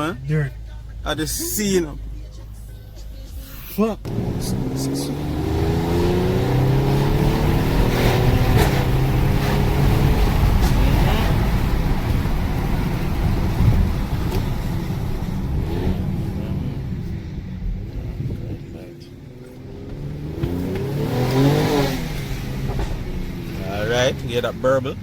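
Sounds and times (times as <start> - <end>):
car engine accelerating: 0.0 - 25.0
road rumble: 0.0 - 25.0.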